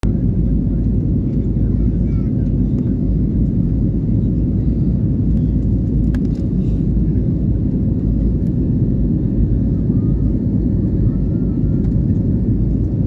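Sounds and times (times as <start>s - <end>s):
passenger plane landing rumble: 0.0s - 13.0s.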